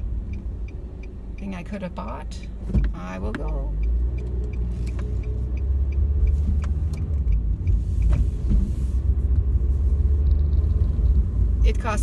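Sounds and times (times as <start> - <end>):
engine and road noise rumble: 0.0 - 12.0.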